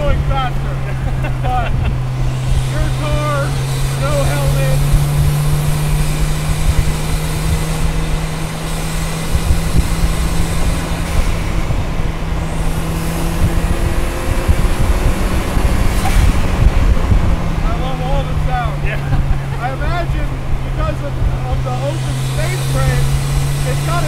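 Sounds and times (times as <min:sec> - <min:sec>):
car engine cruising: 0:00.0 - 0:24.0
wind and road noise: 0:00.0 - 0:24.0.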